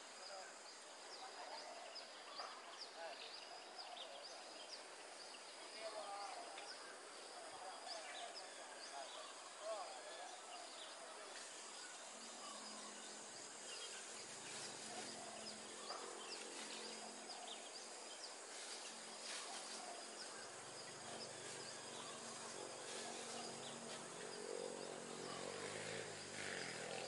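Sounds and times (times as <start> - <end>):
small birds chirping: 0.0 - 27.0
steady hiss: 4.1 - 27.0.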